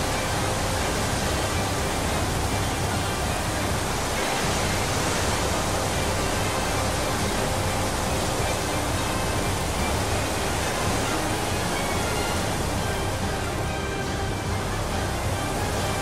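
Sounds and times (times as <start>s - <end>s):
roar of rushing water: 0.0s - 16.0s.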